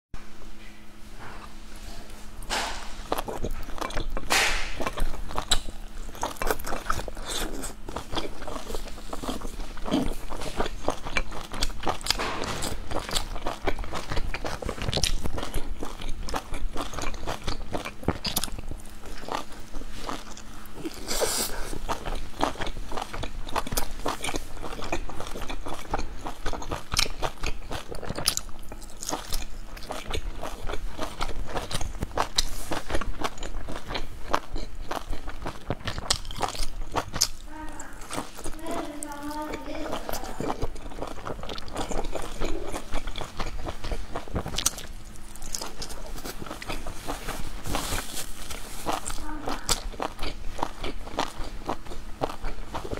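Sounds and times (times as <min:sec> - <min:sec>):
chewing soft dumplings: 0:01.8 - 0:52.9.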